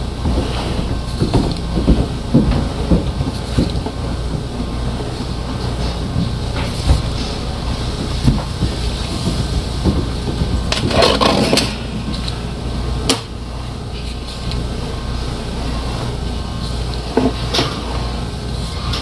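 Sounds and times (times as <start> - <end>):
rattling clatter: 0.0 - 18.2
machine humming: 0.0 - 19.0.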